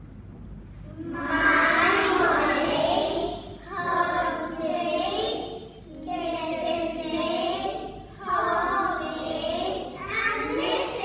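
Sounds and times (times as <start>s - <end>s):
children singing together: 1.0s - 11.0s.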